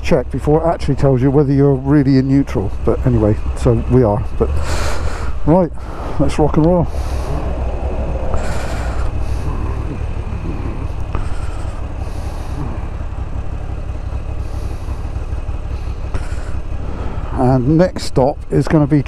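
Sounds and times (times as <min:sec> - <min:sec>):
motorcycle engine rumble: 0:00.0 - 0:19.0
road noise: 0:00.0 - 0:19.0.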